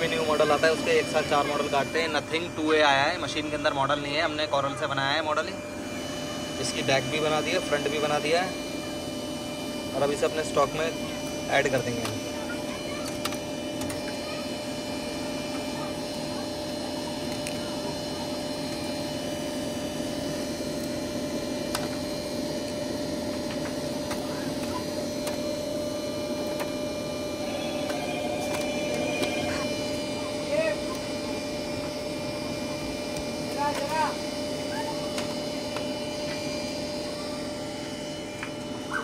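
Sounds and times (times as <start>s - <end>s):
laser cutting machine humming: 0.0s - 39.0s.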